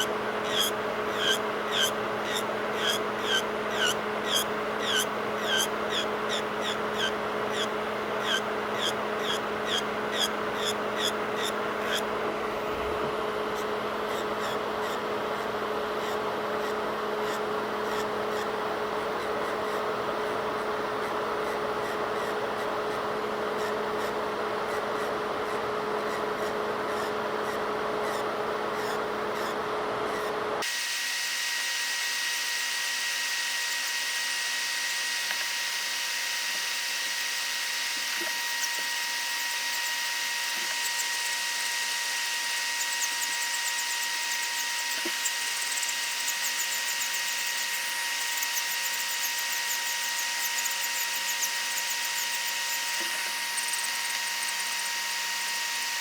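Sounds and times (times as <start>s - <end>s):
electric nail drill whine: 0.0s - 56.0s.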